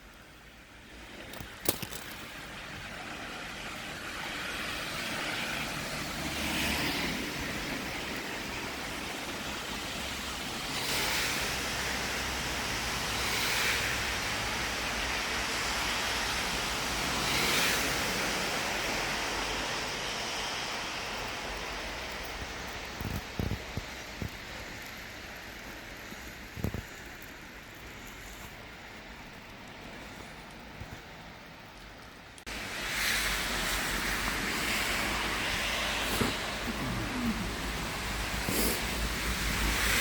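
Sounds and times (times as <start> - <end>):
cars passing with tyre hiss: 0.0 - 40.0
traffic hum: 0.0 - 40.0.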